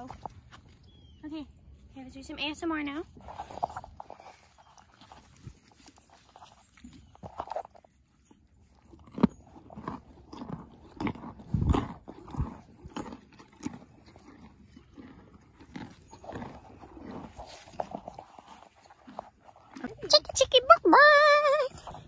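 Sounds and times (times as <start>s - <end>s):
horse chewing: 0.0s - 1.8s, 2.6s - 22.0s.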